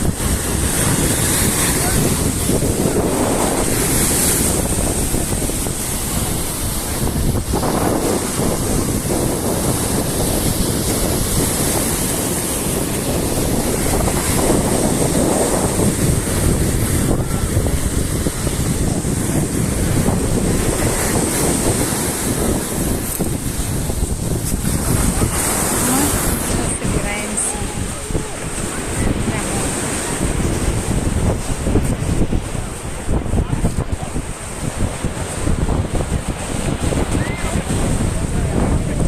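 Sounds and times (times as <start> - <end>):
surf breaking on shore: 0.0 - 39.0
wind buffeting microphone: 0.0 - 39.0.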